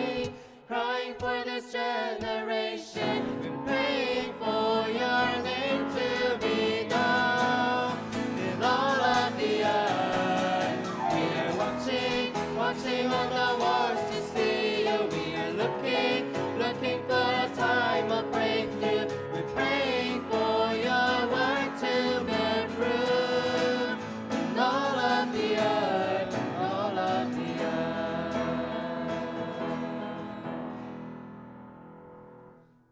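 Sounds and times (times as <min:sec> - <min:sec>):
choir singing gospel song: 0:00.0 - 0:31.1.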